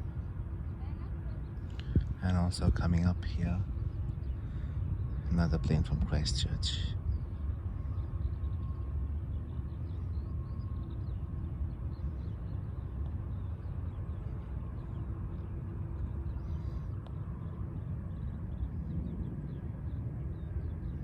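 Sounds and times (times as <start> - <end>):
distant jet engines rumbling: 0.0 - 21.0
faint bird chirps: 0.0 - 21.0.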